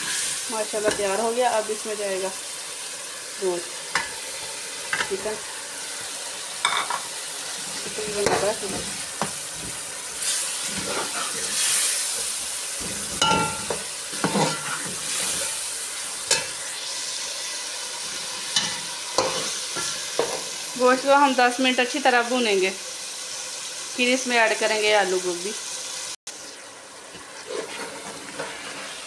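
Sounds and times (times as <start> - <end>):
meat sizzling in a pot: 0.0 - 29.0.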